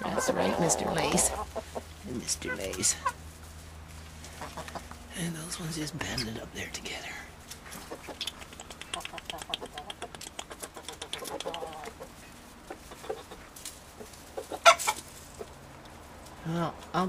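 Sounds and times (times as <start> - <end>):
chickens clucking: 0.0 - 16.6.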